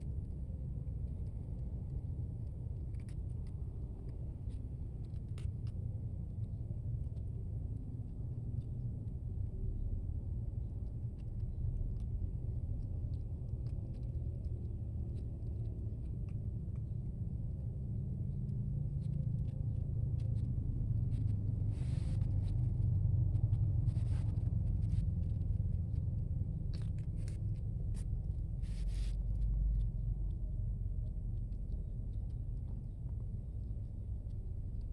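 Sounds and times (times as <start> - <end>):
background traffic rumble: 0.0 - 34.9.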